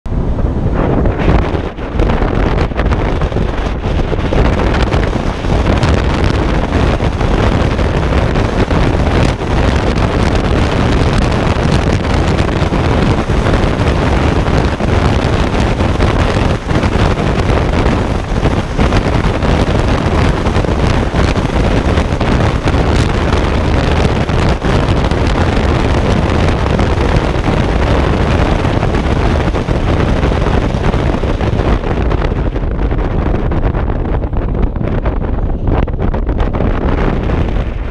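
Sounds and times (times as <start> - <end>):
wind buffeting microphone: 0.0 - 37.9
tyre and road noise: 0.1 - 37.9.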